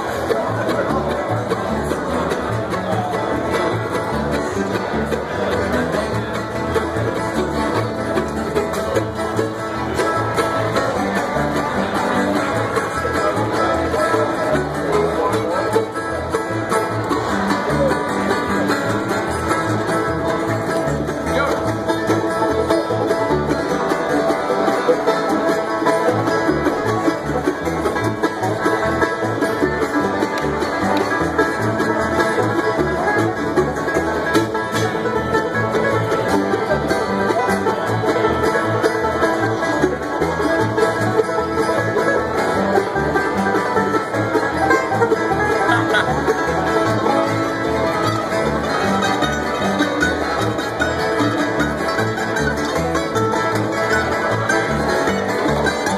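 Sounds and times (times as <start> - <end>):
acoustic guitar: 0.0 - 55.9
banjo: 0.0 - 55.9
mandolin: 0.0 - 55.9
upright bass: 0.0 - 55.9.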